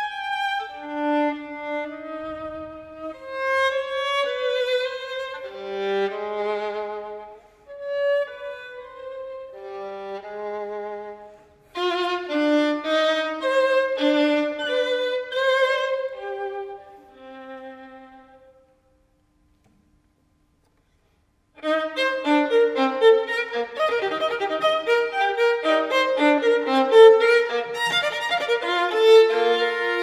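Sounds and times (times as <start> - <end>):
solo violin slow phrases: 0.0 - 18.9, 21.6 - 30.0.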